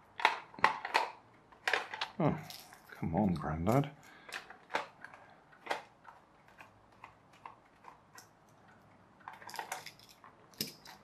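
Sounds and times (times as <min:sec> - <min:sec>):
plastic parts clicking: 0:00.0 - 0:11.0.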